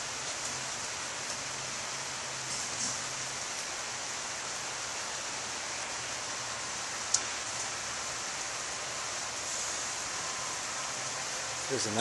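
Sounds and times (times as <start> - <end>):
rain on lawn and trees: 0.0 - 12.0.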